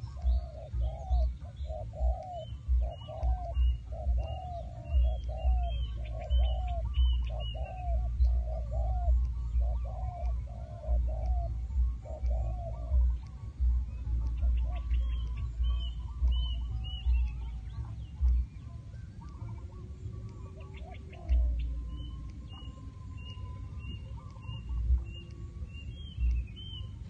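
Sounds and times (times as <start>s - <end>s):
birds chattering: 0.0s - 27.0s.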